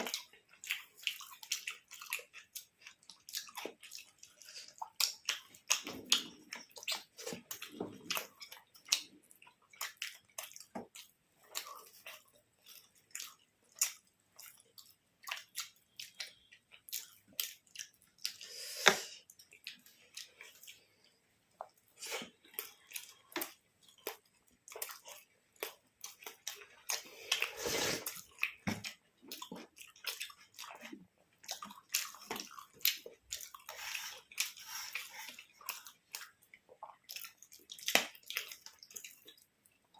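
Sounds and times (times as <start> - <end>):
wet chewing: 0.0 - 39.9.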